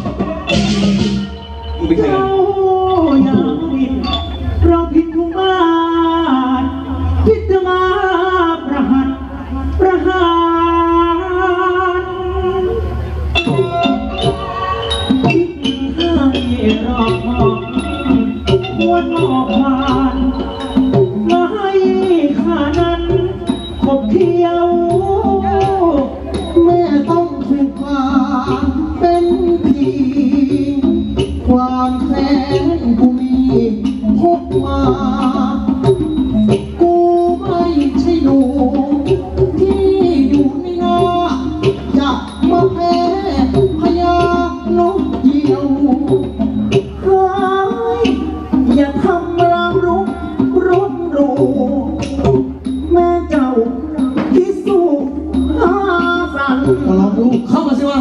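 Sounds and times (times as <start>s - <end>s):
person singing into a microphone: 0.0s - 58.0s
traditional ensemble drums: 0.0s - 58.0s.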